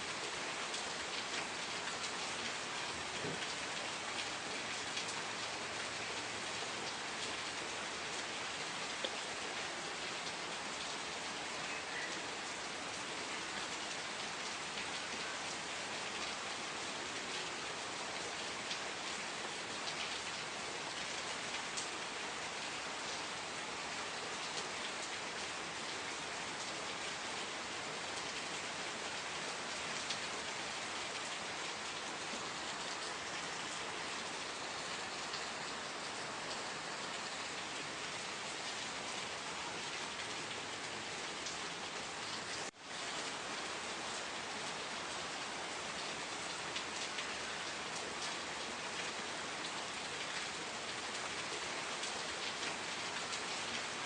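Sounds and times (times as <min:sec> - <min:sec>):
steady rain falling: 0:00.0 - 0:54.0
raindrops ticking on a surface: 0:00.2 - 0:54.0.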